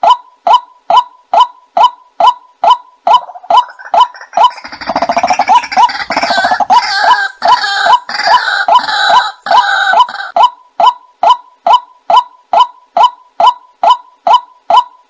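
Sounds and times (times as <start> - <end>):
bird repeated hooked notes: 0.0 - 15.0.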